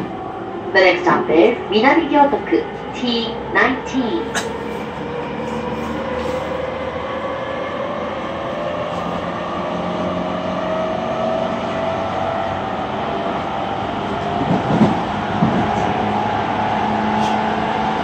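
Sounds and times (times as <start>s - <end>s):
train car rumble: 0.0s - 18.0s.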